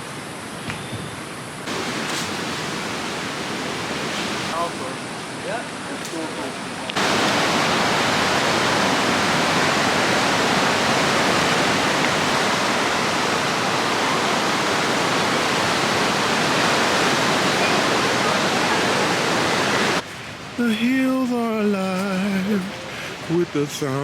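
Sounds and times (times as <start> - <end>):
rushing water roar: 1.3 - 24.0.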